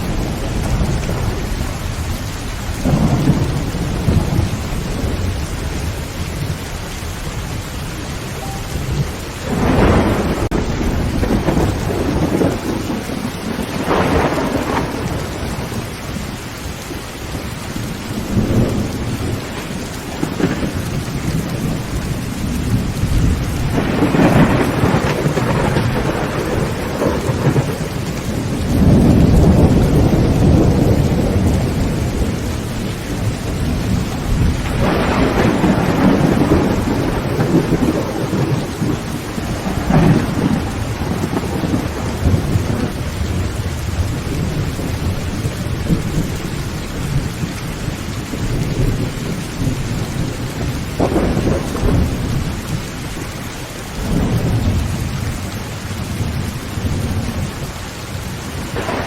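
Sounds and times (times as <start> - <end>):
heavy rain on a tin roof: 0.0 - 59.0
thunder rumbling: 0.0 - 59.0.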